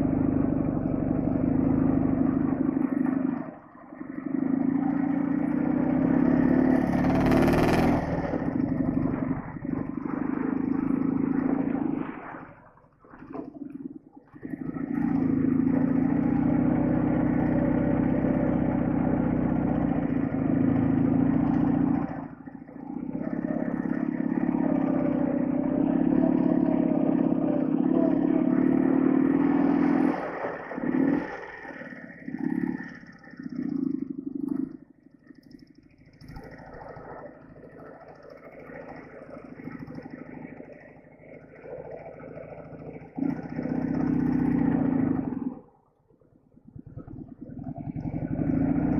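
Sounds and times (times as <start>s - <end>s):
motorcycle engine running: 0.0s - 12.8s, 13.4s - 45.9s, 46.5s - 48.9s.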